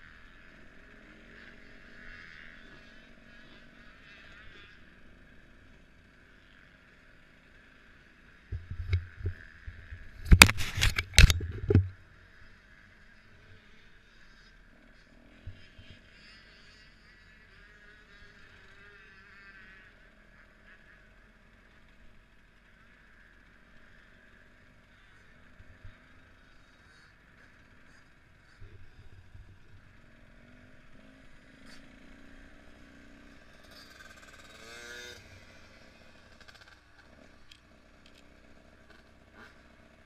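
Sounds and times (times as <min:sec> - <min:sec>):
motorbike engine running: 0:00.0 - 0:40.0.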